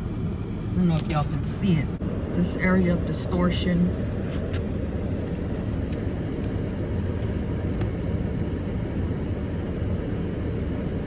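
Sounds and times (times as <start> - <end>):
car heater blower running: 0.0 - 11.0.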